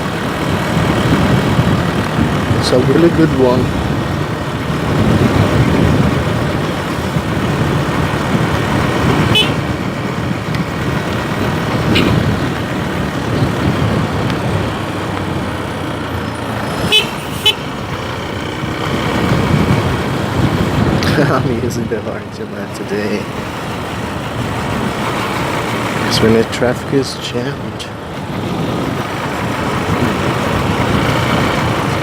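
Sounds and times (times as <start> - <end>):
wind noise: 0.0 - 22.3, 27.7 - 32.0
motorcycle engine: 0.0 - 32.0.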